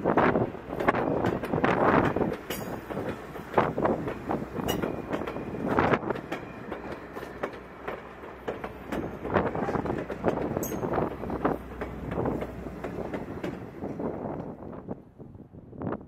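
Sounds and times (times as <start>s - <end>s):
clacks over rail joints: 0.0s - 15.0s
train wheels rumbling on rails: 0.0s - 16.0s.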